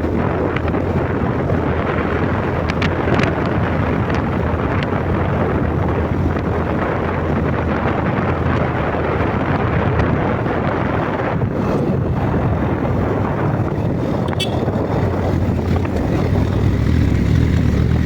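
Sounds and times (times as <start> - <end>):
vehicle road and engine noise: 0.0 - 18.0
wind buffeting microphone: 0.0 - 18.0.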